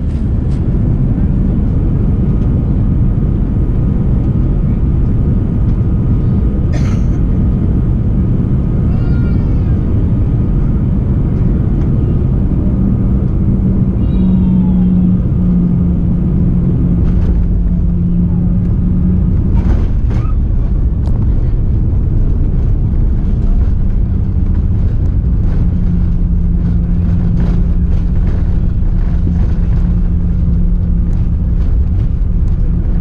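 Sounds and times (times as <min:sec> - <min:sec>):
airliner rolling rumble: 0:00.0 - 0:33.0
steady low hum: 0:00.0 - 0:33.0.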